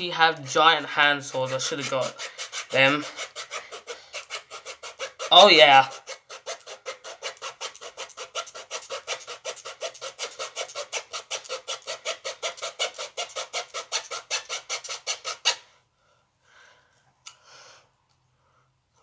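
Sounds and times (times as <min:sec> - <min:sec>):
handsaw cutting wood: 0:00.0 - 0:15.6.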